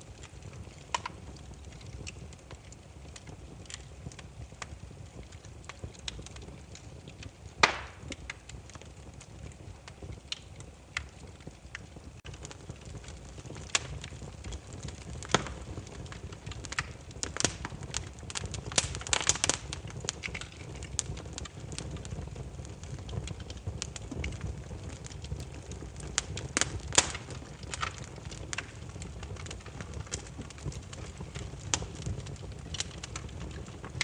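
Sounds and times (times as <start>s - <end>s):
low rumble of flame: 0.0s - 34.0s
firewood snapping and popping: 0.1s - 34.0s.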